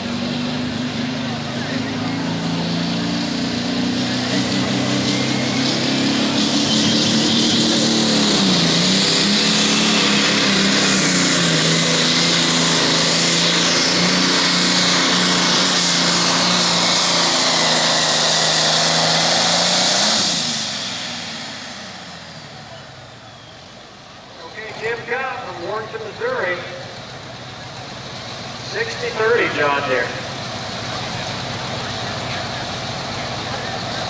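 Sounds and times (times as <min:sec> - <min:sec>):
diesel tractor engine under load: 0:00.0 - 0:34.0.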